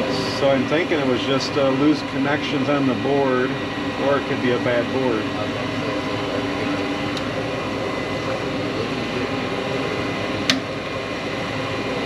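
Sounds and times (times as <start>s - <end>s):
furnace blower whirring: 0.0s - 12.0s.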